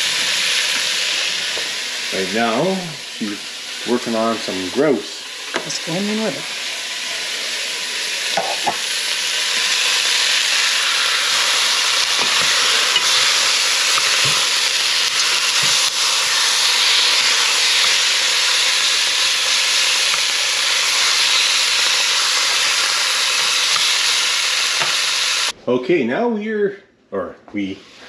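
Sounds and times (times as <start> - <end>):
meat sizzling in fat: 0.0 - 25.6.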